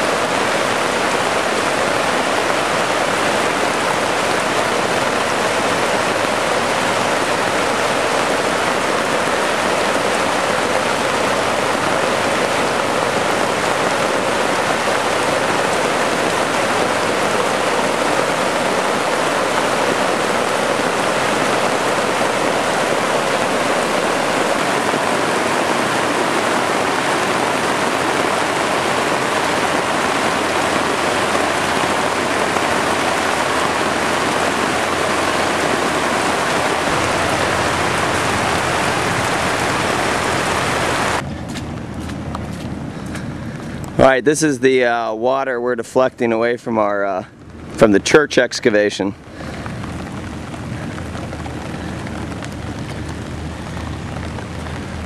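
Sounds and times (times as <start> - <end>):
heavy rain on plastic tarp: 0.0 - 55.0.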